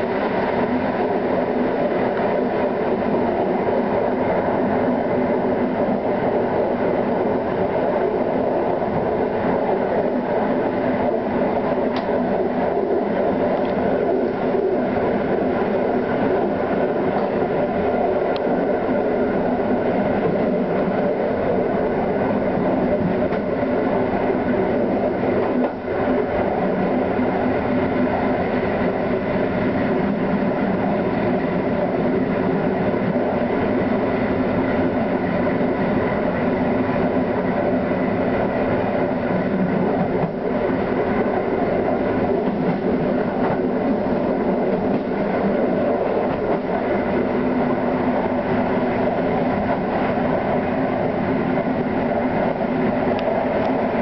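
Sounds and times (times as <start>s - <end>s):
train rolling rumble: 0.0s - 54.0s.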